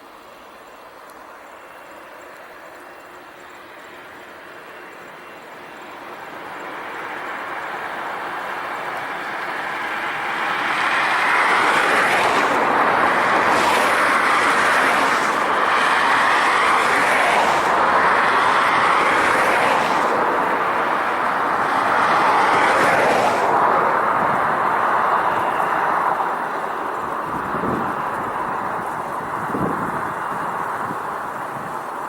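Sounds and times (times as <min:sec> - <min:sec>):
jet engines roaring: 0:00.1 - 0:32.0.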